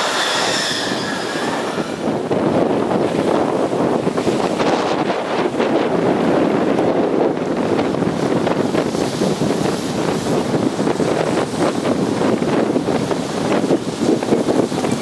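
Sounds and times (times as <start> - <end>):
choppy lake water: 0.0 - 15.0
strong wind buffeting microphone: 0.0 - 15.0.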